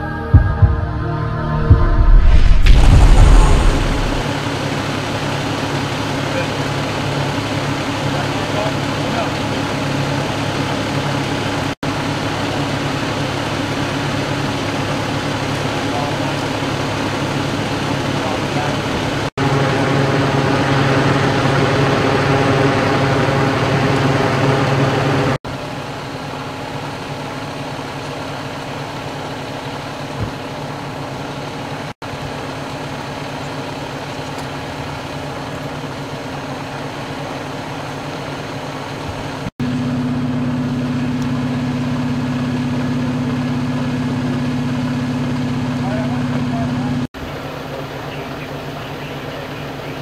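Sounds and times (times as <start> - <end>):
diesel engine idling: 4.0 - 50.0.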